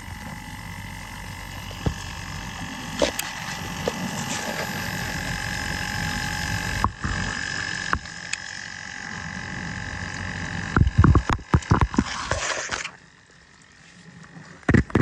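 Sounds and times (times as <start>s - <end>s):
dishwasher pump humming: 0.0s - 13.3s.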